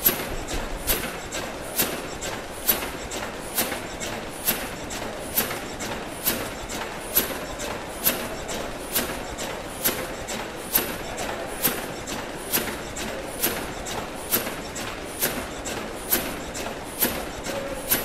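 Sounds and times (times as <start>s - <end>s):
steam engine machinery clattering: 0.0s - 18.0s.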